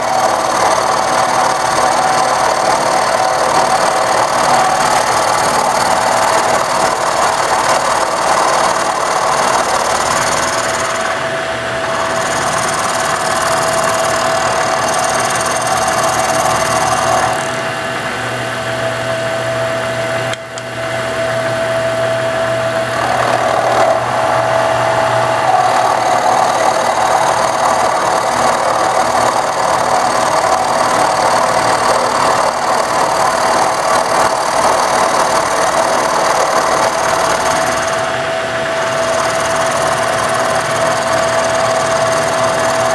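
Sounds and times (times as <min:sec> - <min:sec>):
cutter rasping wood: 0:00.0 - 0:17.7, 0:21.6 - 0:42.9
milling machine whine: 0:00.0 - 0:42.9.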